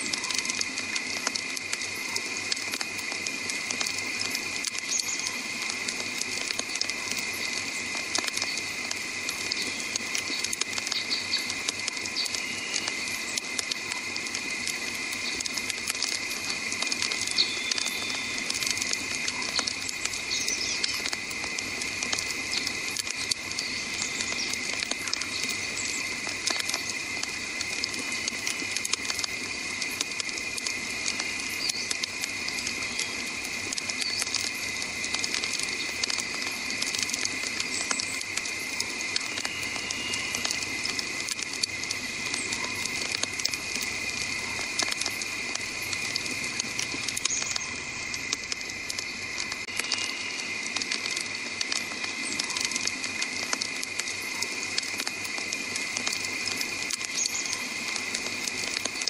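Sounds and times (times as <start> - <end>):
campfire crackling and popping: 0.0 - 59.0
insect chorus drone: 0.0 - 59.0.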